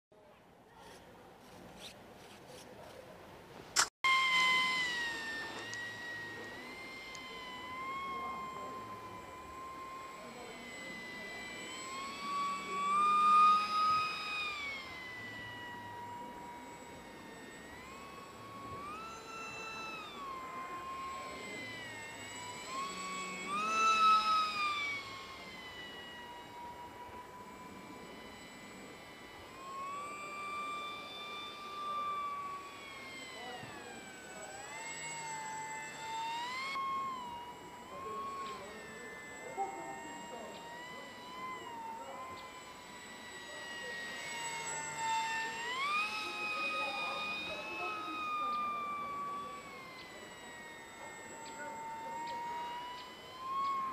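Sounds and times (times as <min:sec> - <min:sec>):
model jet motor whining: 0:00.6 - 0:03.1, 0:03.7 - 0:53.9.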